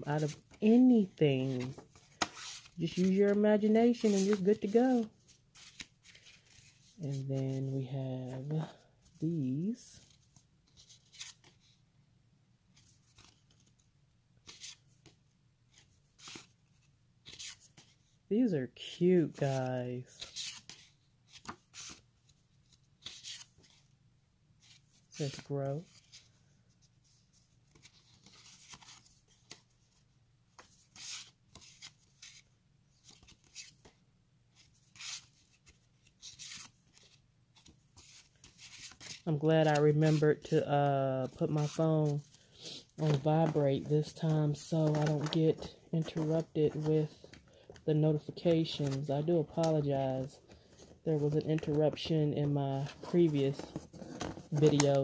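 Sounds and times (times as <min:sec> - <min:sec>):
paper cards rustling and sliding: 0:00.0 - 0:11.8, 0:12.7 - 0:18.2, 0:18.8 - 0:24.0, 0:24.6 - 0:55.0.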